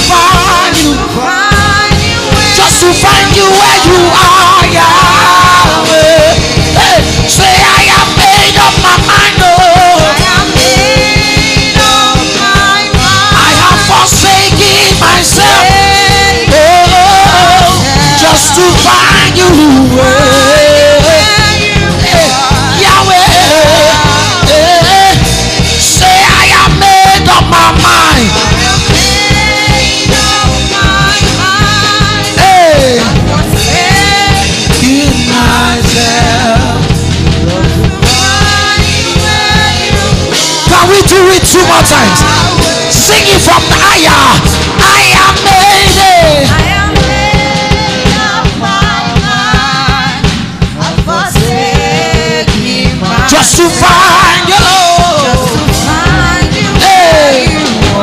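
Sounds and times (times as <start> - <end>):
drum beat: 0.0 - 58.0
voices singing held notes: 0.0 - 58.0
worship band playing: 0.0 - 58.0.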